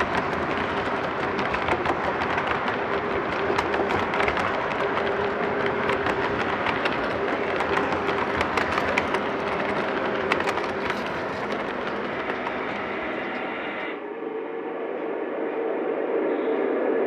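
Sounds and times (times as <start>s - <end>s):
model train wheels rumbling: 0.0s - 14.0s.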